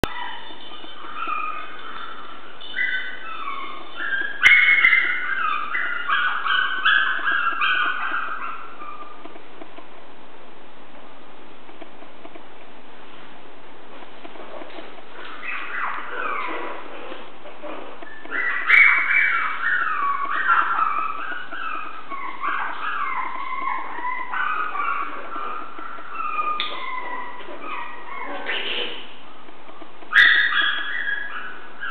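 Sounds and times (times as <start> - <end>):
puppies whimpering and yipping: 0.0 - 10.0, 14.2 - 31.9.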